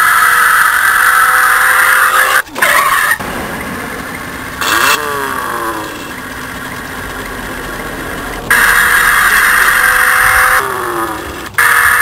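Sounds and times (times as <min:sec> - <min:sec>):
simulated engine revving: 0:00.0 - 0:12.0.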